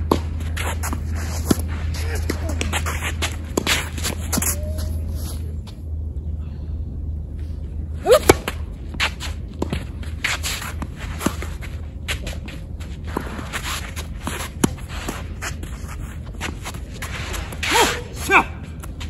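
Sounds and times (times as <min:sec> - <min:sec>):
rackets striking tennis ball: 0:00.0 - 0:05.2, 0:08.0 - 0:19.0
footsteps and shoe scuffs on court: 0:00.0 - 0:06.0, 0:08.2 - 0:19.0.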